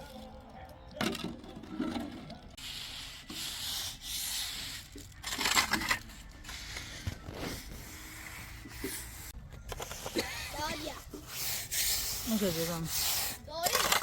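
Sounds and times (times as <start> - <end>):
gritty scraping and rubbing: 1.2 - 14.0.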